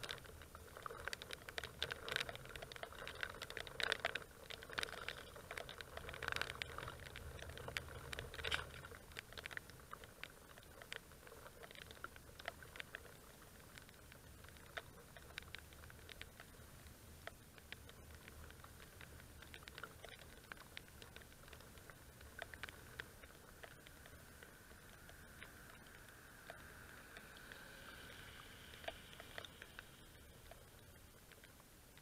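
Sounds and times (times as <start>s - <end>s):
faint low rumble: 0.0s - 32.0s
raindrops ticking on camera: 0.0s - 32.0s.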